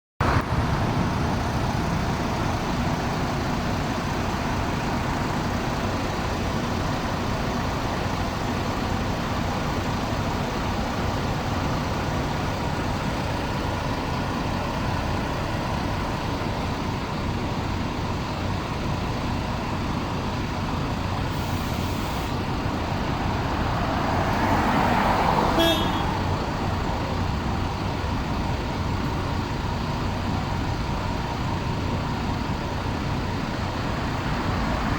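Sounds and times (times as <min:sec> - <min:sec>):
road traffic noise: 0:00.2 - 0:34.9.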